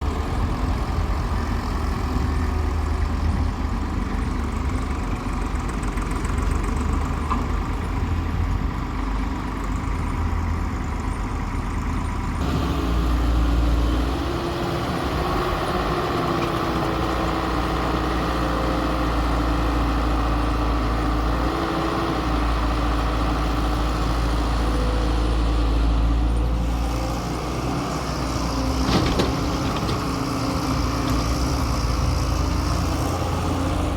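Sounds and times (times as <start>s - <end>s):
heavy diesel engine rumble: 0.0s - 33.9s.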